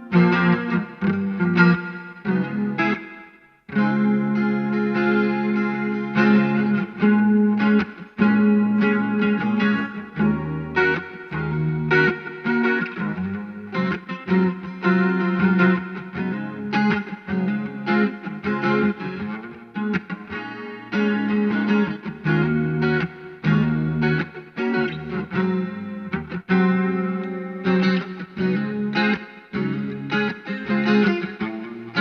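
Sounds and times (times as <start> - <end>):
electric guitar through amplifier: 0.0 - 32.0.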